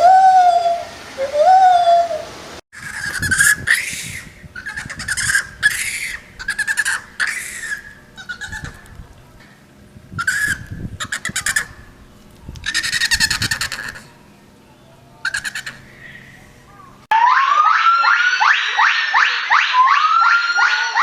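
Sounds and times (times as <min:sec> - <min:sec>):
monkey calling: 0:00.0 - 0:08.9, 0:10.2 - 0:11.9, 0:12.6 - 0:14.2, 0:15.2 - 0:21.0.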